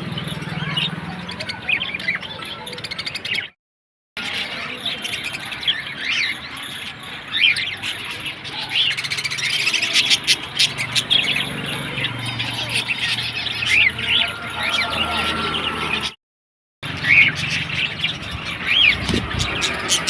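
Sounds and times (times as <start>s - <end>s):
cage birds chirping and chattering: 0.0s - 3.6s, 4.2s - 16.2s, 16.8s - 20.0s.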